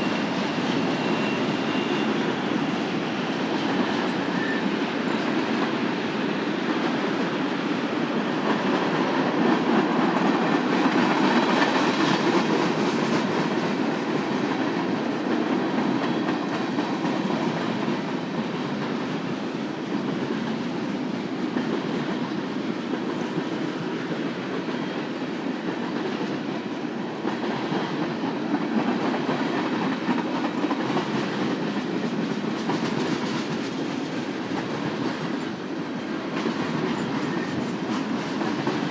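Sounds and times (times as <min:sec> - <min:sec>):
freight train wheels on track: 0:00.0 - 0:38.9.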